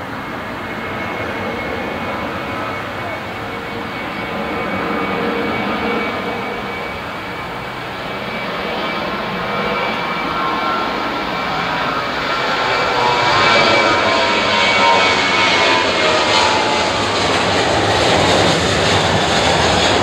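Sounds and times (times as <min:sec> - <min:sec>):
jet engines roaring on takeoff: 0:00.0 - 0:20.0.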